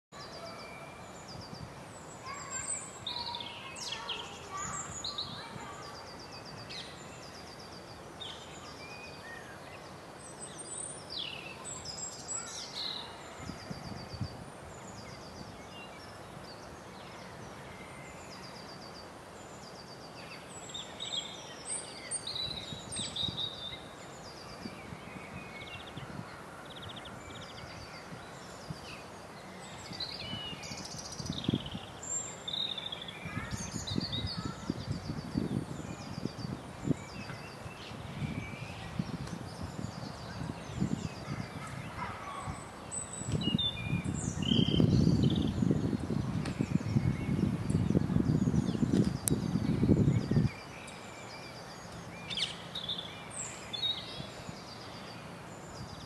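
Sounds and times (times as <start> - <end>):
songbirds chirping and trilling: 0.1 - 56.0.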